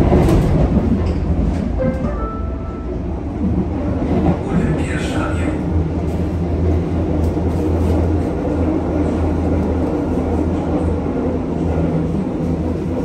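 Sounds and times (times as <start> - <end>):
wheels rumbling on rails: 0.0 - 13.0.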